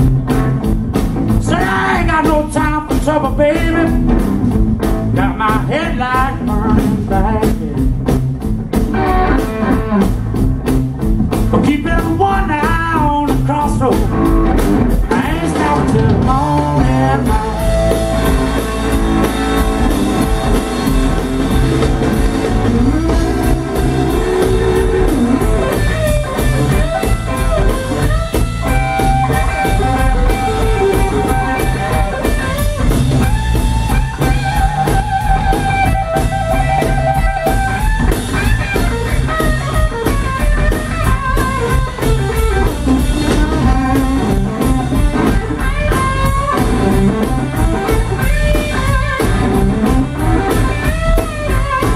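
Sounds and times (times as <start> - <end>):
drum kit steady beat: 0.0 - 51.9
electric bass: 0.0 - 51.9
electric guitar lead lines: 0.0 - 51.9.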